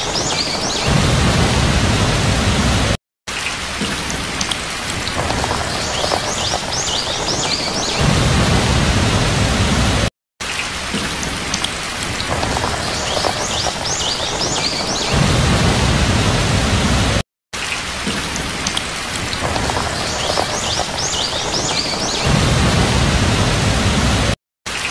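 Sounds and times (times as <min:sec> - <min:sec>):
thunder rumbling: 0:00.0 - 0:03.0, 0:03.8 - 0:10.1, 0:10.9 - 0:17.2, 0:18.4 - 0:24.4
heavy rain: 0:00.0 - 0:24.9.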